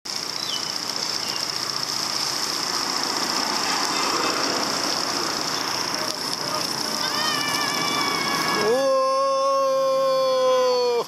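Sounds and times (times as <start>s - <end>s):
bicycles rolling: 0.1s - 10.4s
traffic hiss: 0.1s - 11.0s.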